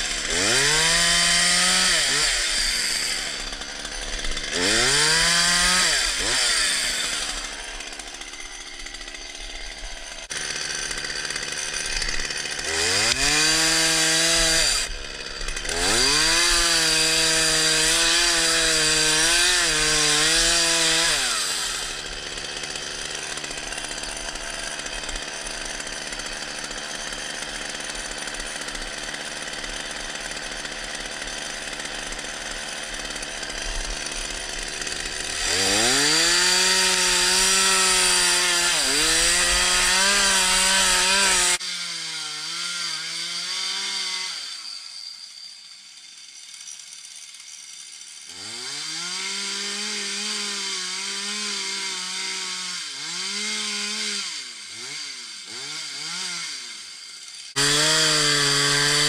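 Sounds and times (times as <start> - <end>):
chainsaw cutting wood: 0.0 - 59.0
chainsaw idling and revving: 0.0 - 59.0.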